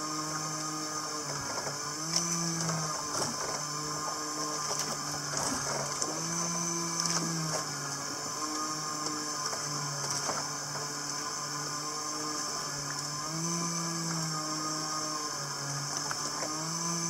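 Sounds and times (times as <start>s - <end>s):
small motor whining: 0.0s - 17.0s.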